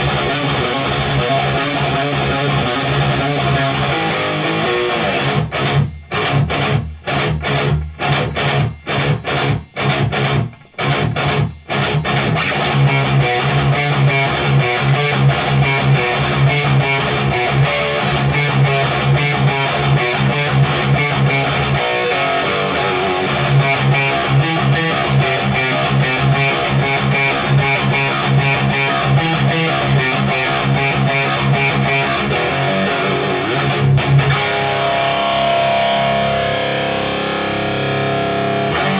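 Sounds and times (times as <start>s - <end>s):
distorted electric guitar riff: 0.0s - 38.9s.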